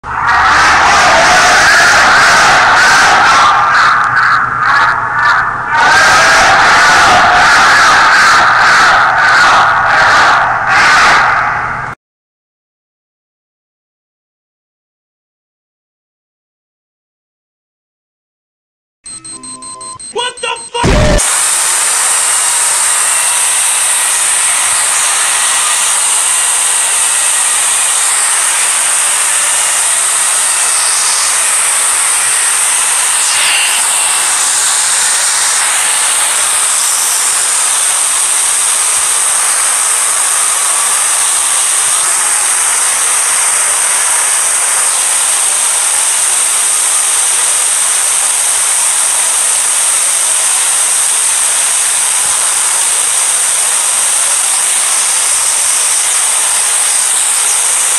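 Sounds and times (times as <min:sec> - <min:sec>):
loud steady hissing: 0:00.1 - 0:10.5, 0:20.8 - 0:57.9.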